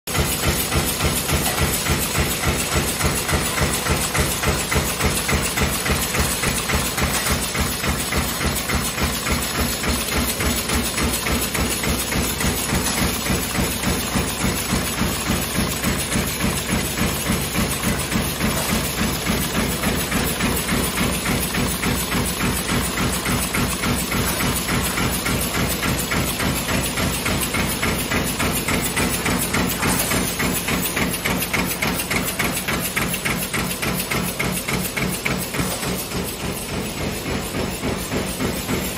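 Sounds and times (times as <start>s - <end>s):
machine line running: 0.1s - 38.9s
press strokes stamping: 0.1s - 38.9s.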